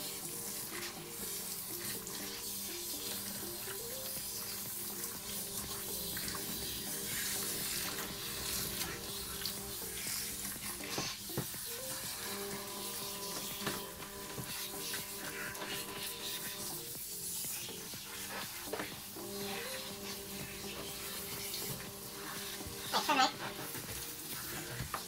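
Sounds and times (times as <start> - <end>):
background music: 0.0 - 25.0
shower sprayer hissing on dog's coat: 0.0 - 25.0.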